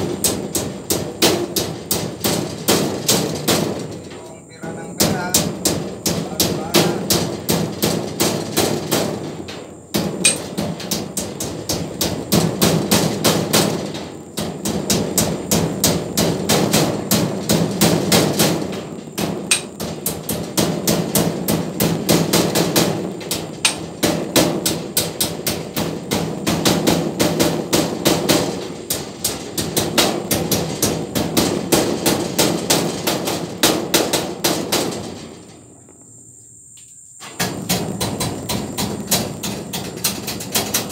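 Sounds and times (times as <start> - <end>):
hammer striking steel frame: 0.0 - 35.6, 37.2 - 40.9.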